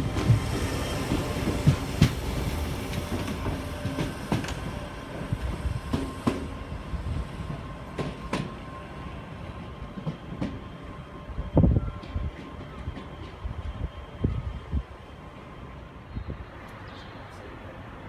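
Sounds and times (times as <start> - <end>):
electric train pulling away: 0.0 - 16.8.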